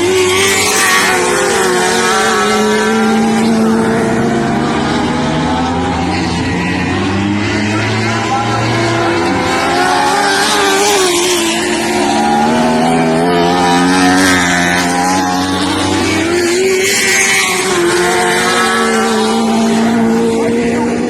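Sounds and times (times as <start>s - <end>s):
racing car engines passing: 0.0s - 21.0s.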